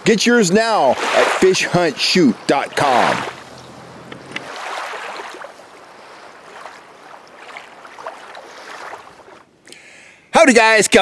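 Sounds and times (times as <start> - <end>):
water lapping around a kayak: 0.6 - 9.6.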